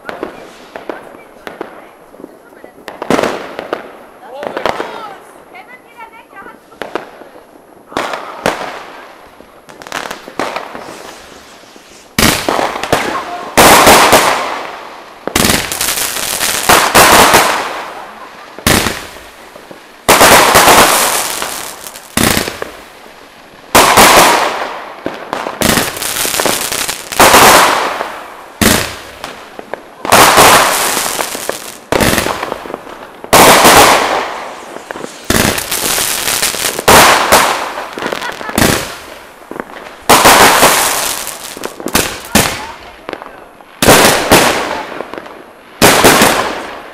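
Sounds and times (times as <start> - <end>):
fireworks bangs with hiss: 0.0 - 46.9.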